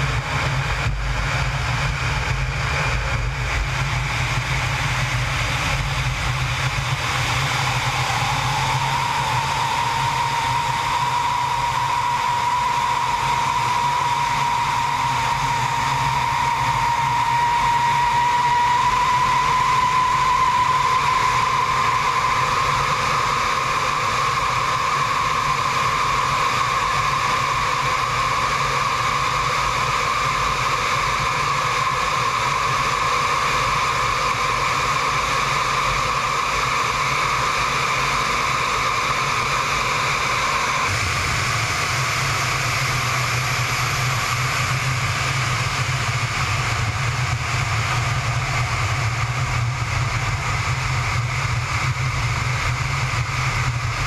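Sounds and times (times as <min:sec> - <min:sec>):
deep jet rumble: 0:00.0 - 0:54.0
jet engines with high whine: 0:00.0 - 0:54.0.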